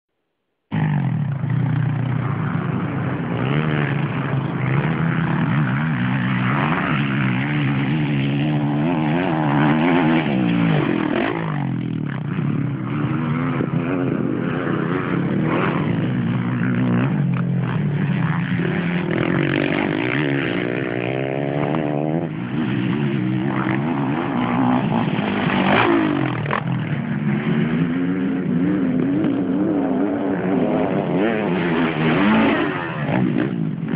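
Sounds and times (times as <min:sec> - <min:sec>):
dirt bike engines revving: 0:00.7 - 0:33.9.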